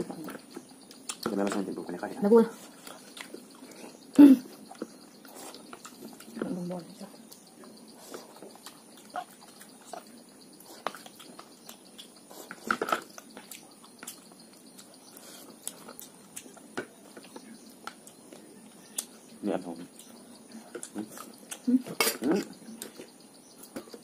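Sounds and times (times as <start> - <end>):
chewing: 0.2 - 1.6, 2.6 - 6.4, 7.2 - 19.2, 19.9 - 24.0.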